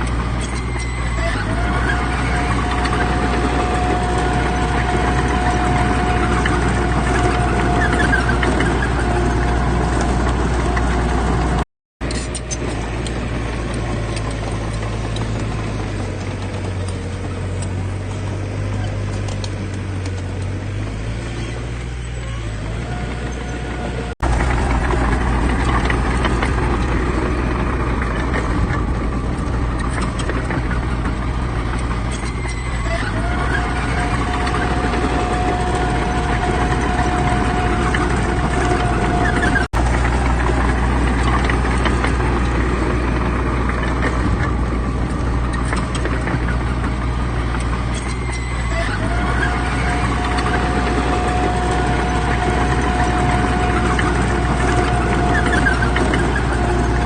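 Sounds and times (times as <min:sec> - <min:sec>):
heavy diesel machines droning: 0:00.0 - 0:57.0.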